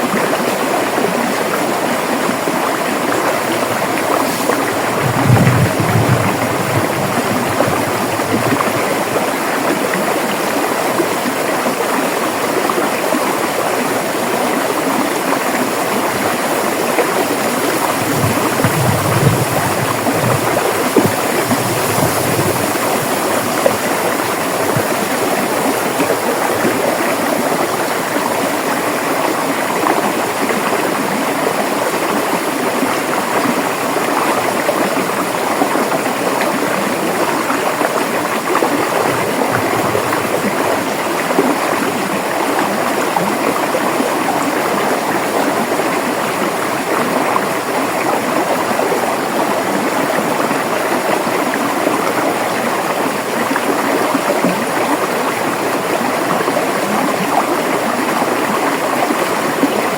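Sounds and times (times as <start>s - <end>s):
river gurgling over rocks: 0.0s - 59.9s.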